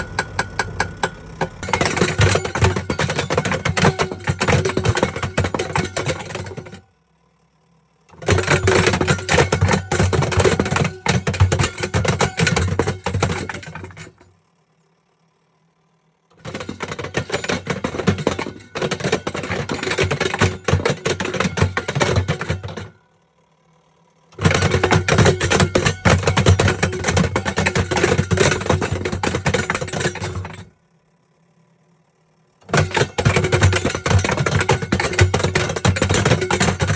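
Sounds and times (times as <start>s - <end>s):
kettle clattering in washing machine: 0.0s - 6.8s, 8.2s - 14.2s, 16.4s - 22.9s, 24.4s - 30.7s, 32.6s - 36.9s.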